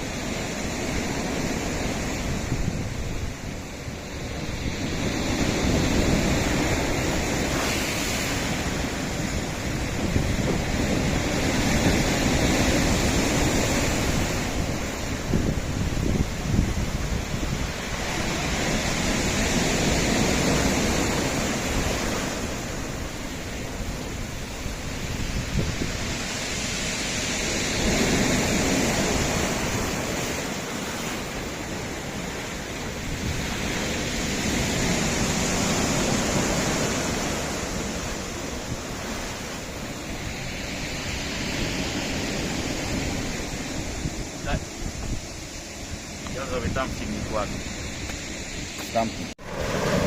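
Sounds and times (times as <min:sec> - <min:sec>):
waves washing onto rocky shore: 0:00.0 - 0:50.0.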